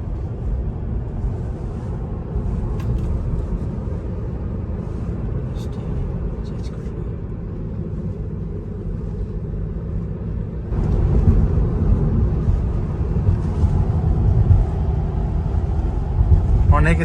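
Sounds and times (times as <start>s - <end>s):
tyre rumble inside car cabin: 0.0s - 17.0s.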